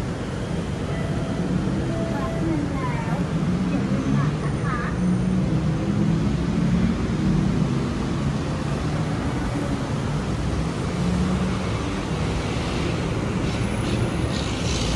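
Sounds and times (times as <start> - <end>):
road traffic rumble: 0.0 - 14.9.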